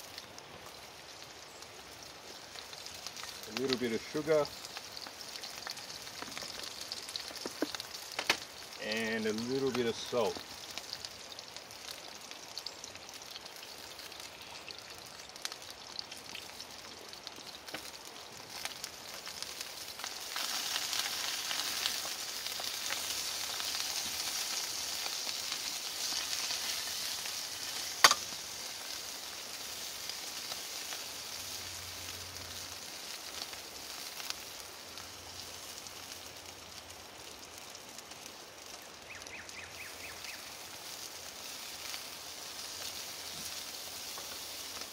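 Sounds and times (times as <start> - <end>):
peas sizzling in hot oil: 0.0 - 44.9.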